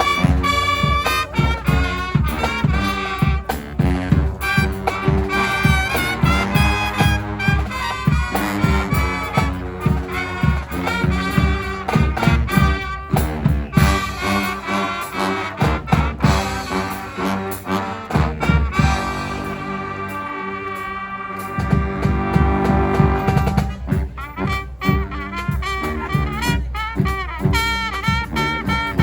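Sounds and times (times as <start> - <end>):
brass band horns playing: 0.0 - 29.0
steady drum beat: 0.0 - 29.0.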